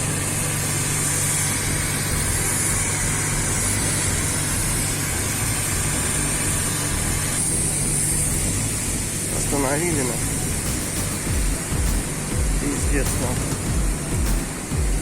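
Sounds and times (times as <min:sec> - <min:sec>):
heavy machinery humming: 0:00.0 - 0:15.0.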